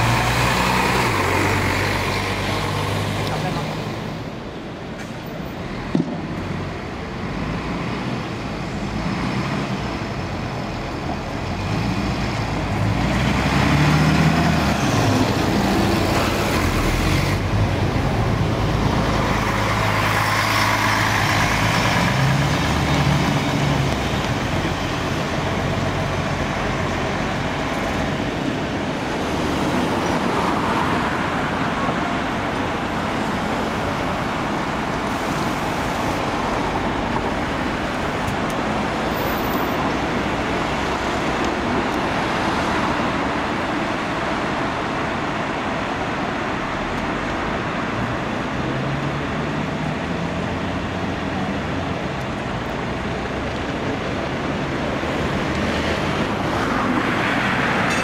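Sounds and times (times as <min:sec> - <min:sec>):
bus engine hum: 0:00.0 - 0:58.0
traffic noise: 0:00.0 - 0:58.0.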